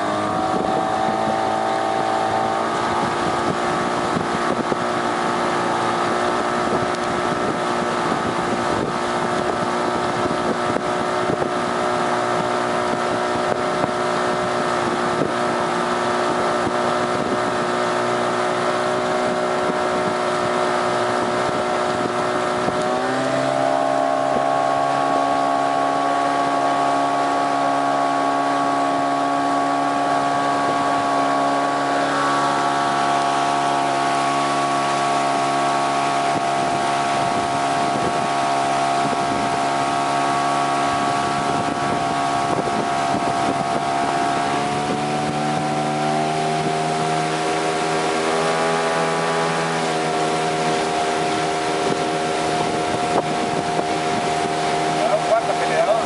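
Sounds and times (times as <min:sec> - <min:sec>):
outboard motor running: 0:00.0 - 0:56.0
water splashing: 0:00.0 - 0:56.0
wind on microphone: 0:00.0 - 0:56.0.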